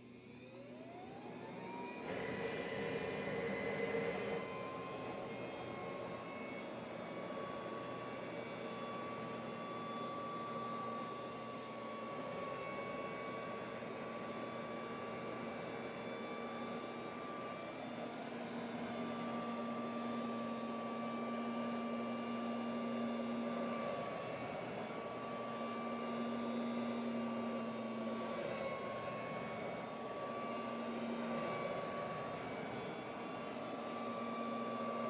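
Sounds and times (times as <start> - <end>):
hand vacuum running: 0.0 - 35.0.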